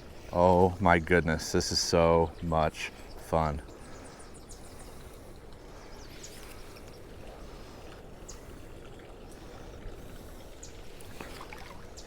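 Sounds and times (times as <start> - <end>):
flowing creek: 0.0 - 12.0.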